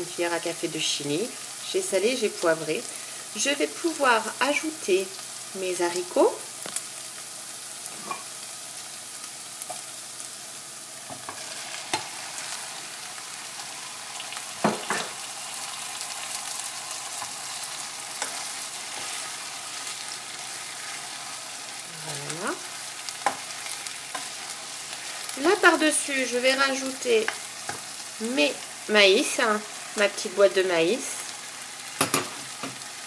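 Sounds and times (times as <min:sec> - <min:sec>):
meat sizzling in a pot: 0:00.0 - 0:33.0.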